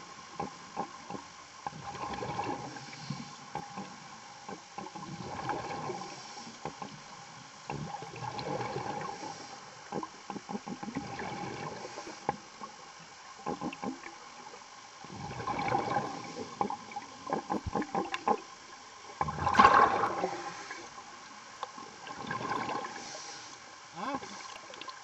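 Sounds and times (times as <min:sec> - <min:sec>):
underwater bubbles gurgling: 0:00.0 - 0:25.0.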